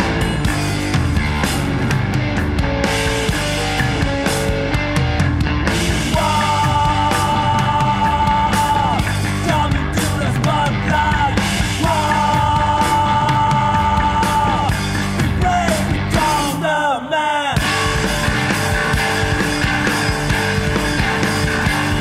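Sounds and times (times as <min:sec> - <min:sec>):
band playing loud rock: 0:00.0 - 0:22.0.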